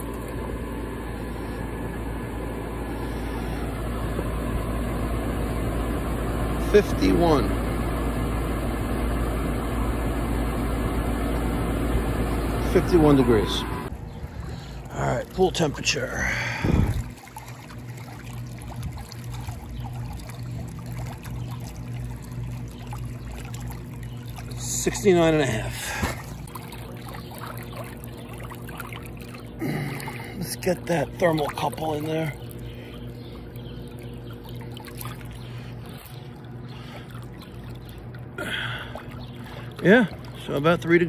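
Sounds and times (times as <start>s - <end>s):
low machine hum: 0.0s - 41.0s
pool water trickling and lapping: 0.0s - 41.0s.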